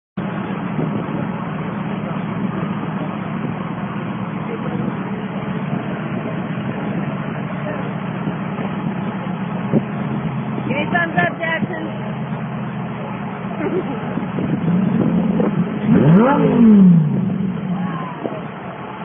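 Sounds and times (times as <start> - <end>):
sports car engine running: 0.2 - 19.0.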